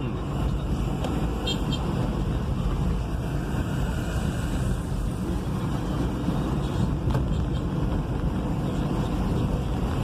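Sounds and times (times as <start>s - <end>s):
engine and road noise in cab: 0.0s - 10.0s.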